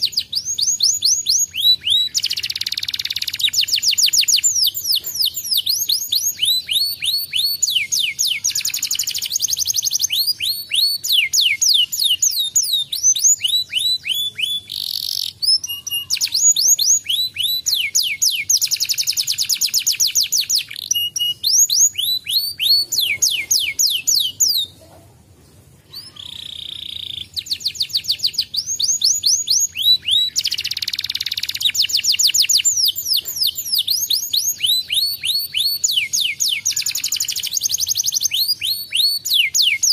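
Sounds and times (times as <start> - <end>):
canary singing: 0.0 - 25.0, 25.8 - 39.9.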